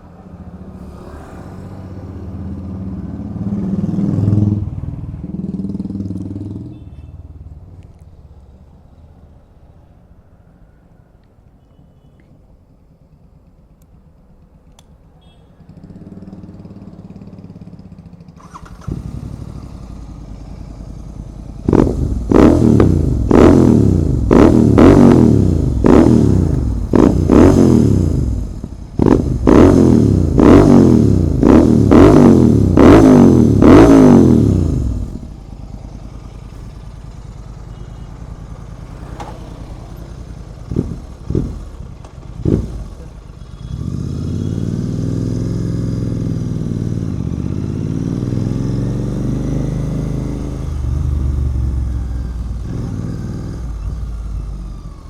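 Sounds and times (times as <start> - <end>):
motorcycle engine revving and idling: 0.0 - 8.8, 13.2 - 55.0.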